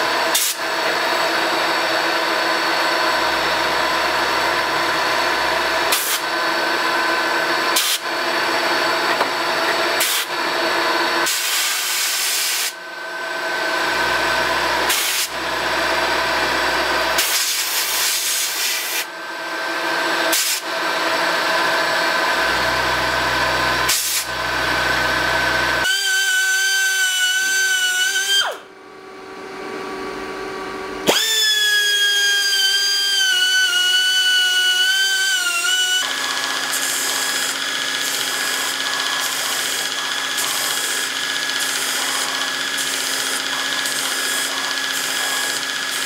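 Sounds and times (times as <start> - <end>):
rotary grinder whining: 0.0 - 28.7, 30.3 - 46.0
milling machine drilling steel: 0.3 - 18.9, 20.2 - 28.5, 31.0 - 46.0
belt grinder grinding steel: 1.8 - 19.0, 21.4 - 28.5, 31.0 - 46.0.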